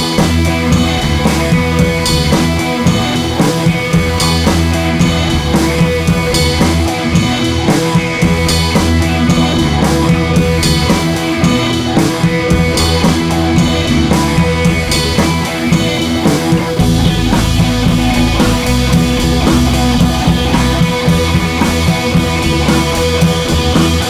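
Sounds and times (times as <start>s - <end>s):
rock music with drums and guitar: 0.0s - 24.0s.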